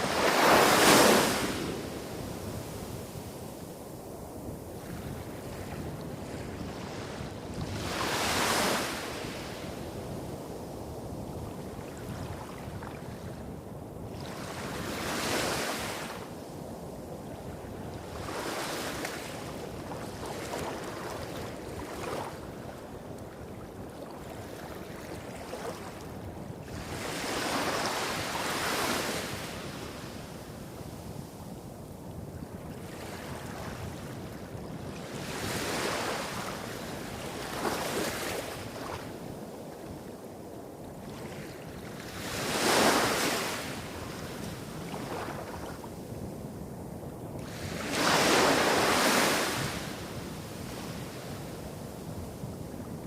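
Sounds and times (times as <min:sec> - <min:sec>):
small waves breaking on beach: 0:00.0 - 0:10.8, 0:17.4 - 0:31.2, 0:32.6 - 0:46.3, 0:47.4 - 0:53.0.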